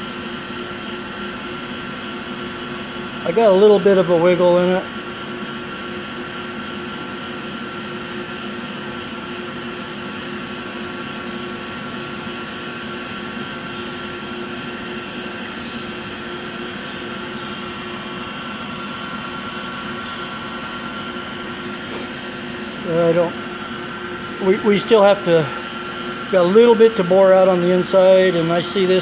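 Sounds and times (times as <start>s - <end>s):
shop machinery hum: 0.0s - 29.0s.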